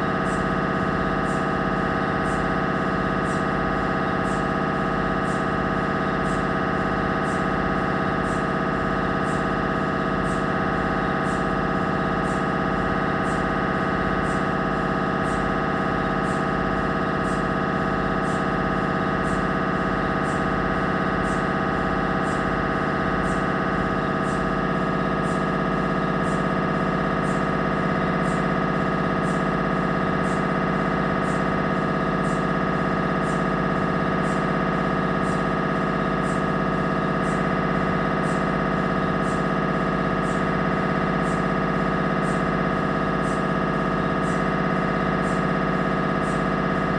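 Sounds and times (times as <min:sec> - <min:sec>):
mri scanner buzzing: 0:00.0 - 0:46.9.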